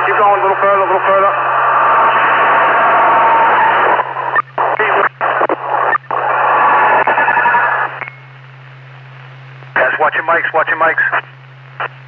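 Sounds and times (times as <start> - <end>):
radio static rushing: 0.0 - 12.0
steady hum: 0.0 - 12.0.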